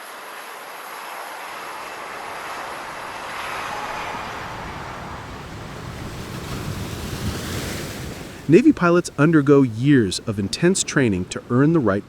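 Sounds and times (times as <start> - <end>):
jet engine rush: 0.0 - 12.0.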